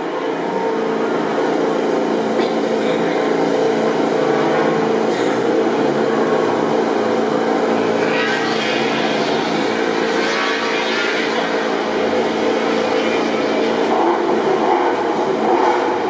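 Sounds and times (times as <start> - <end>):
faint engine noise: 0.0 - 16.0.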